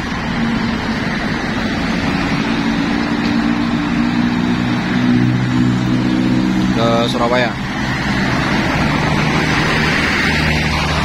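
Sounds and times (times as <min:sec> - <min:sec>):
coach diesel engine droning: 0:00.0 - 0:11.0
road traffic noise: 0:00.0 - 0:11.0.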